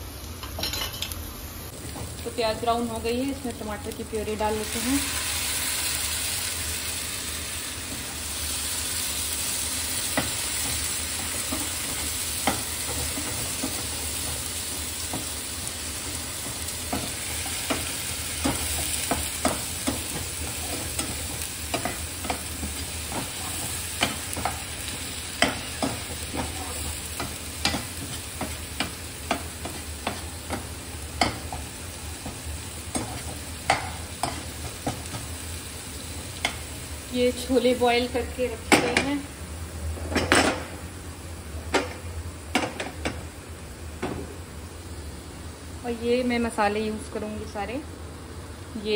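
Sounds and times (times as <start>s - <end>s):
onions sizzling in frying pan: 0.0s - 48.9s.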